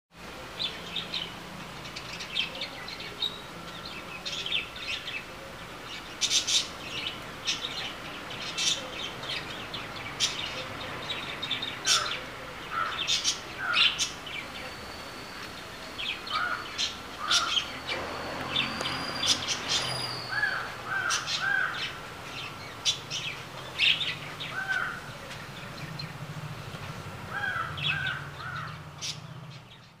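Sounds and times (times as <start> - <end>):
steady background noise: 0.2 - 30.0
birds chirping and calling: 0.4 - 30.0.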